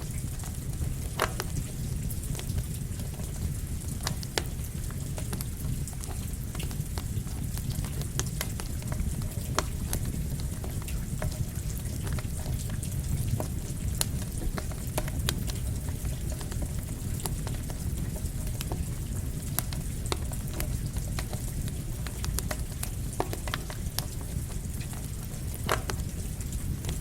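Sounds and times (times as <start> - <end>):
campfire crackling and popping: 0.0 - 27.0
falling rain: 0.0 - 27.0.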